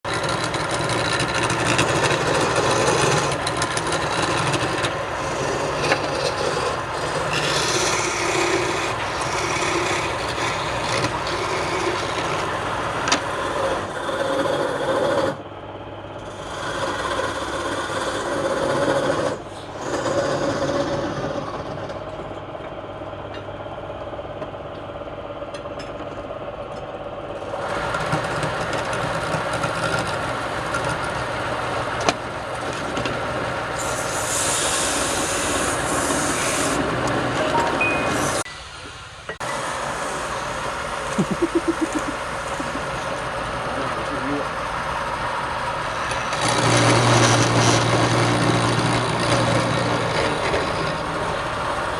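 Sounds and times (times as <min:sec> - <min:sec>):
lathe tool scraping wood: 0:00.0 - 0:15.4, 0:16.2 - 0:22.1, 0:27.4 - 0:38.5, 0:39.6 - 0:51.9
lathe motor humming: 0:00.1 - 0:23.1, 0:27.3 - 0:38.5, 0:39.4 - 0:51.9.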